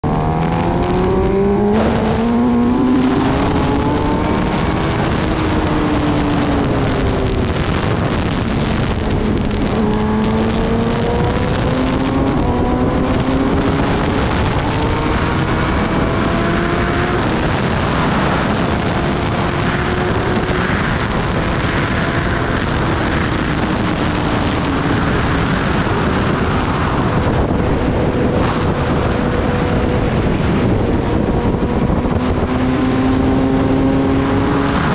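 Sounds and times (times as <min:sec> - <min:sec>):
motorcycle engine accelerating: 0:00.0 - 0:34.9
wind noise on microphone: 0:00.0 - 0:34.9.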